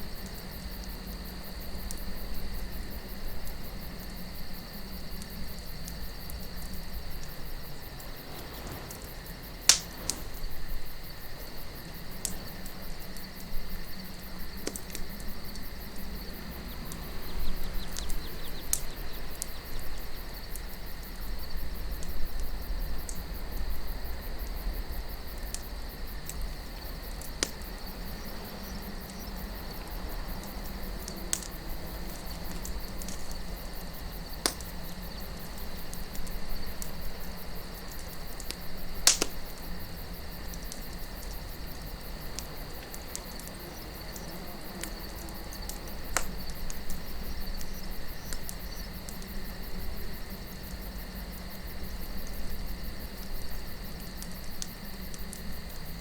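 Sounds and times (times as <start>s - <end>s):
low wind rumble: 0.0s - 54.2s
campfire crackling and popping: 0.0s - 56.0s
crickets trilling: 0.0s - 56.0s.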